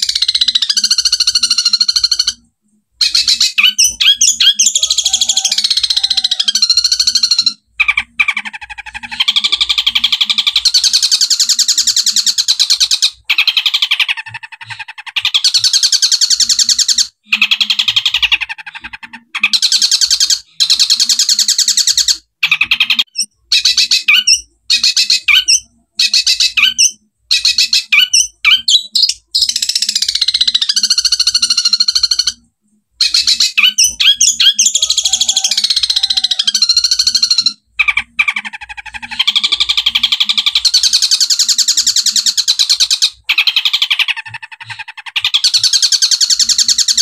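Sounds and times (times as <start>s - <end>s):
shrike singing fast chattering phrases: 0.0s - 47.0s.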